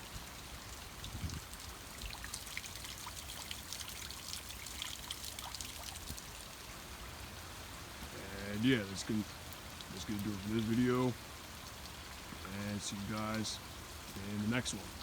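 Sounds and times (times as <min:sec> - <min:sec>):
rain drops ticking: 0:00.0 - 0:15.0.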